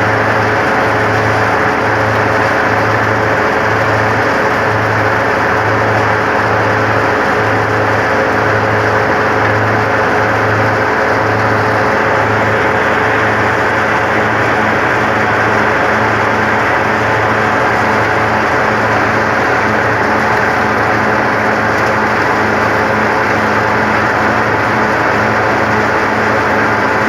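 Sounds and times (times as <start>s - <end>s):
low engine hum: 0.0s - 27.0s
thresher mechanical din: 0.0s - 27.0s.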